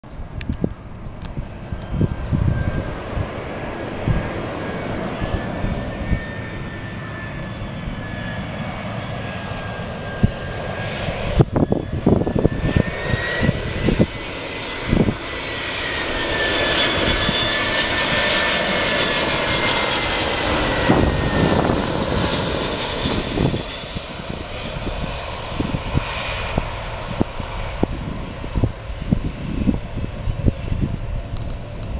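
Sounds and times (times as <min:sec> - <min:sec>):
jet engines whining rumble: 0:00.0 - 0:31.9
wind buffeting microphone: 0:00.0 - 0:31.9.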